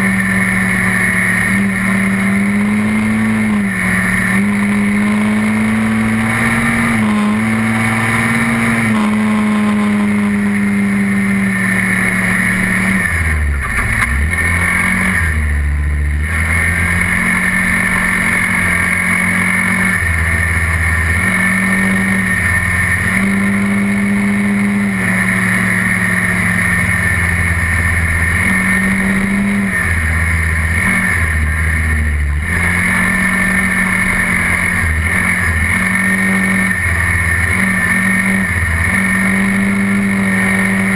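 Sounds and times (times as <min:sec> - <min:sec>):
quad bike engine running: 0:00.0 - 0:40.9.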